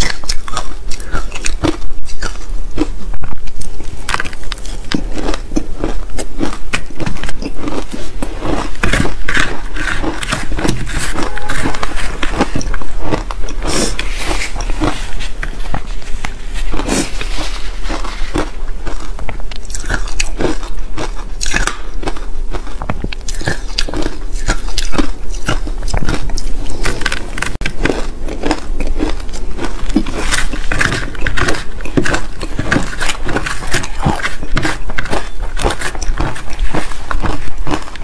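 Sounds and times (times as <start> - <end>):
chewing crunchy ice: 0.0 - 38.0.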